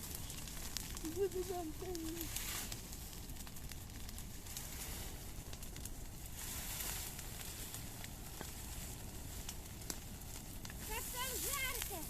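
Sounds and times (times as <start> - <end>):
bonfire crackling and popping: 0.0 - 12.0
fire steady rush: 0.0 - 12.0.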